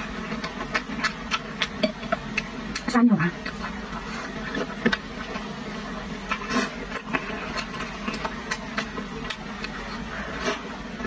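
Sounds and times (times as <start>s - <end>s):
background hum: 0.0s - 11.0s
person chewing food: 0.0s - 11.0s.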